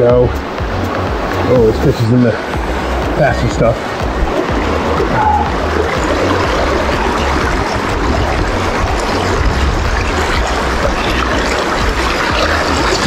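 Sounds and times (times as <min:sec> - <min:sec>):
brook water rushing over rocks: 0:00.0 - 0:13.0.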